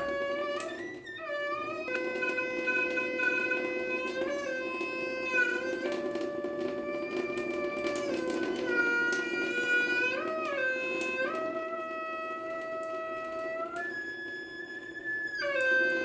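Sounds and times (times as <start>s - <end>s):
water tap singing tone: 0.0s - 16.0s.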